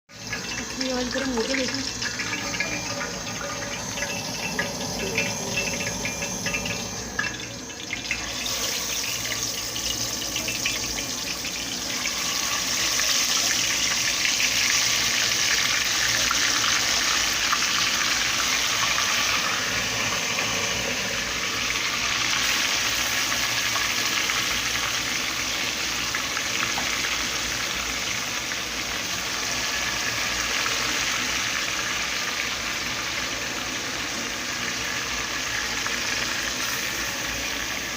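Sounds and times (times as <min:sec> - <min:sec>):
chicken frying in hot oil: 0:00.1 - 0:37.9.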